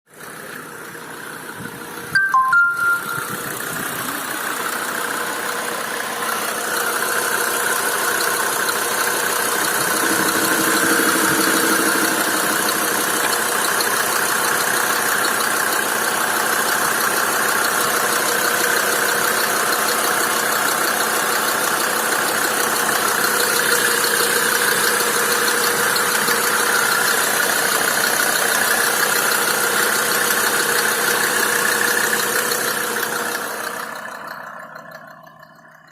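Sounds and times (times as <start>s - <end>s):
turbodiesel engine running: 0.1s - 35.9s.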